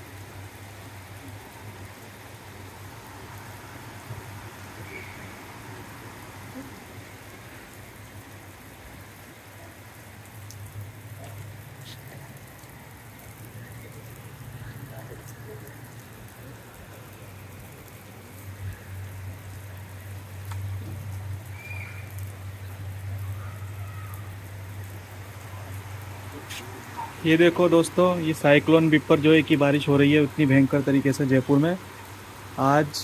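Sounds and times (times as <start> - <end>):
heavy rain on concrete rooftop: 0.0 - 33.0.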